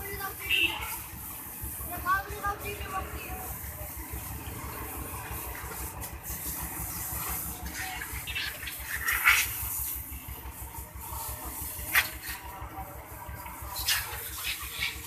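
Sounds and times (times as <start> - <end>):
garden hose water spraying: 0.0 - 15.0.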